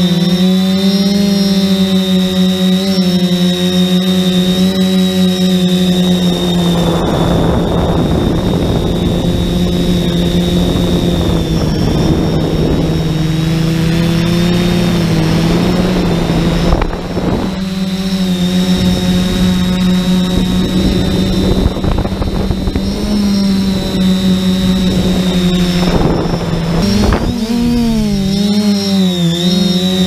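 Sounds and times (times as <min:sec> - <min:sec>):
quadcopter motors humming: 0:00.0 - 0:30.0
rushing wind noise: 0:04.4 - 0:30.0.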